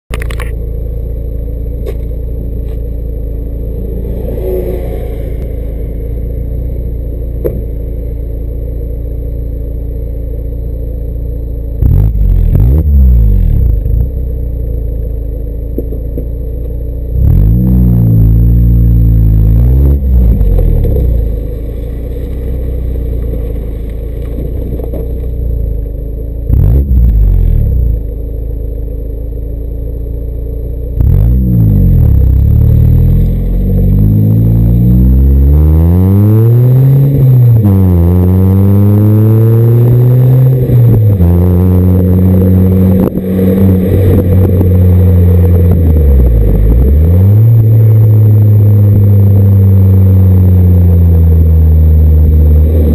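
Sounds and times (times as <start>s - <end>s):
car engine idling: 0.1s - 52.9s
car engine revving: 0.1s - 52.9s.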